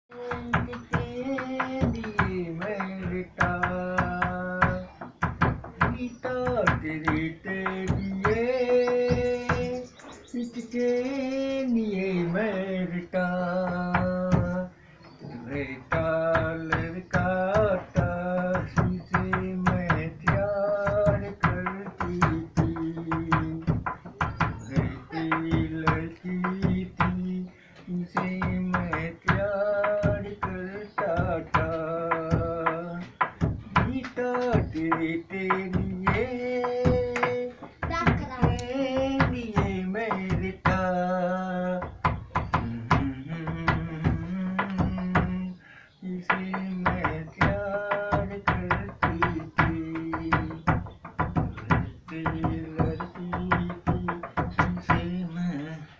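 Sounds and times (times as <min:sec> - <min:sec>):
man singing unaccompanied: 0:00.0 - 0:55.9
hand knocking on wooden bench: 0:00.2 - 0:09.9, 0:12.6 - 0:14.7, 0:15.6 - 0:45.6, 0:46.2 - 0:55.3.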